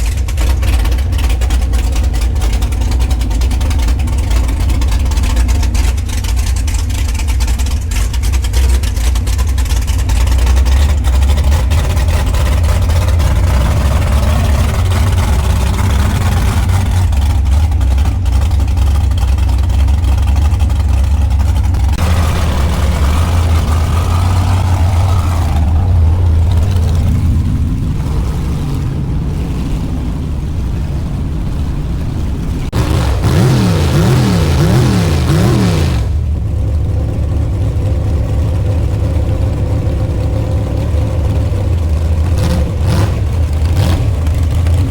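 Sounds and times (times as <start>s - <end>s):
truck engine rumbling: 0.0s - 44.9s.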